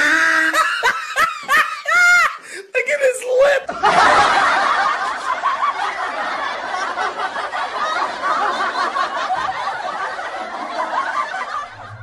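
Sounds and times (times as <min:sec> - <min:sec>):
people laughing: 0:00.0 - 0:02.4, 0:03.4 - 0:12.0.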